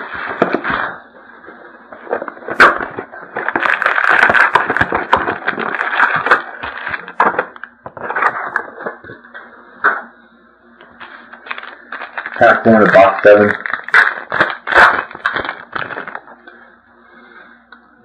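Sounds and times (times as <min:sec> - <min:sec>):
plastic wrap crinkling: 0:00.0 - 0:09.1, 0:10.8 - 0:17.3.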